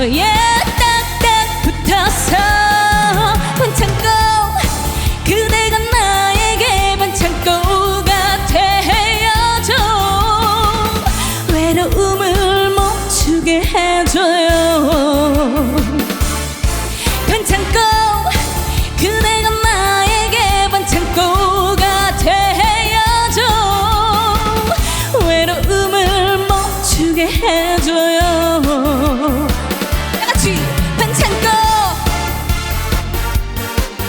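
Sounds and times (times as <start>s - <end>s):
woman singing with vibrato: 0.0s - 16.2s, 17.2s - 29.6s, 30.2s - 32.6s
pop backing band: 0.0s - 34.0s.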